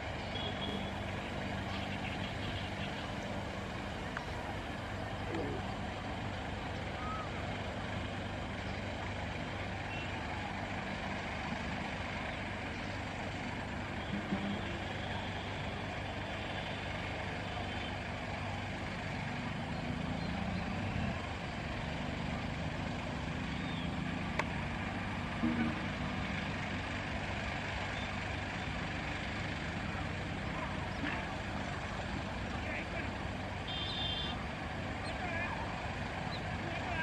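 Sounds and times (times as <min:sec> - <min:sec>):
distant motor traffic rumble: 0:00.0 - 0:37.0
low engine drone: 0:00.0 - 0:37.0.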